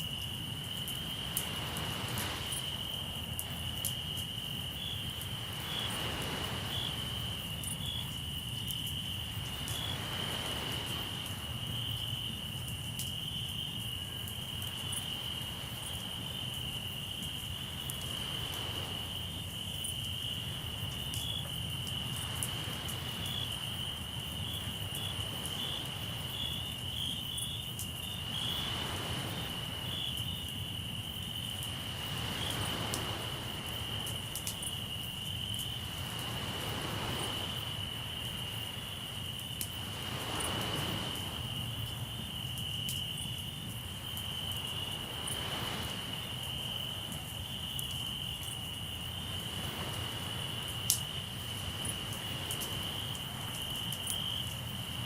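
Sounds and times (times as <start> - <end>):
campfire crackling: 0.0 - 55.0
crickets trilling: 0.0 - 55.0
waves washing in: 0.4 - 12.5, 14.3 - 26.9, 28.2 - 30.2, 31.3 - 42.3, 43.7 - 55.0.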